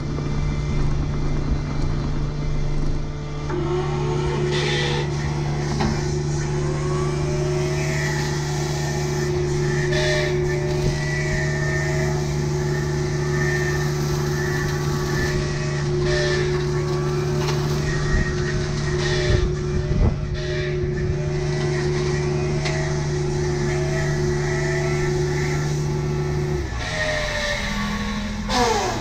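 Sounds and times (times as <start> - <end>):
diesel engine running: 0.0 - 29.0
wavering hydraulic whine: 0.0 - 29.0.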